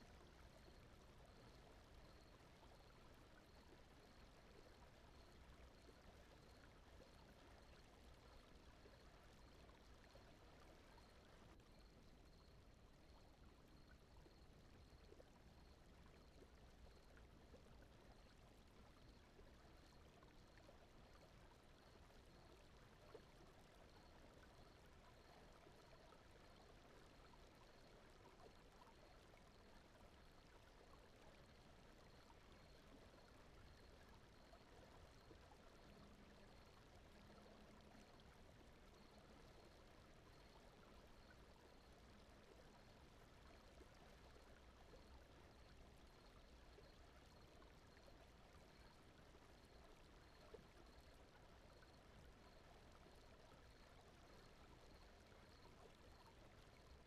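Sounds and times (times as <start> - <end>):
faint brown noise: 0.0 - 57.0.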